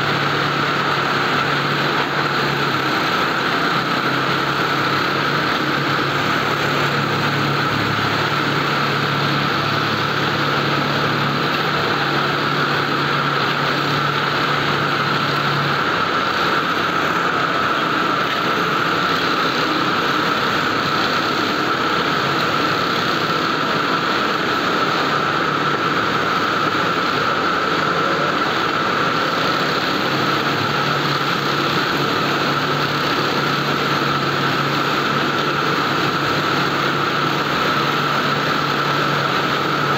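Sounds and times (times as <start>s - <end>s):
industrial sewing machines droning: 0.0s - 39.9s.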